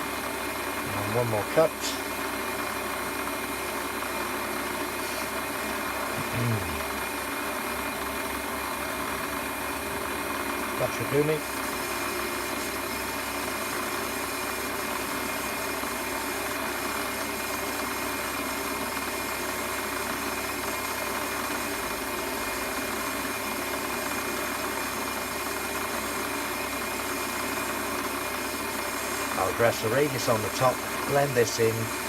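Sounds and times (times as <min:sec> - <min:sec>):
metal lathe running: 0:00.0 - 0:32.0.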